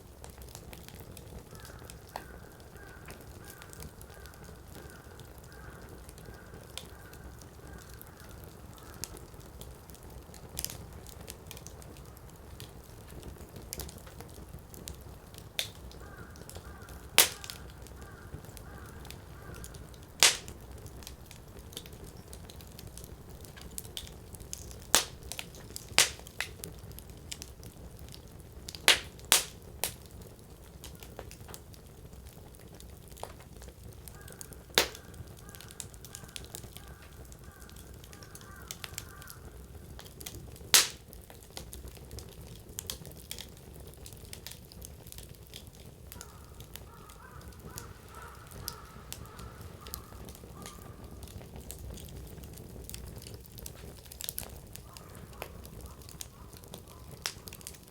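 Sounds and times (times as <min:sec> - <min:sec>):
campfire crackling: 0:00.0 - 0:57.9
loud fire pops: 0:00.0 - 0:57.9.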